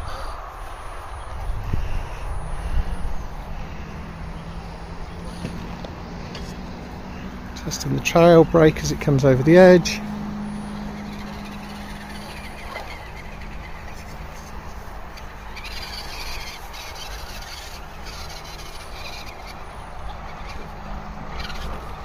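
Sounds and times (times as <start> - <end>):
electric motor and gears humming: 0.0 - 22.0.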